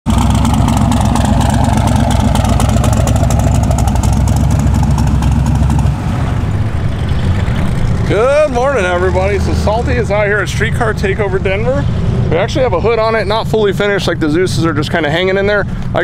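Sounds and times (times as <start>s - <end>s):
car engine idling choppily: 0.0s - 16.0s.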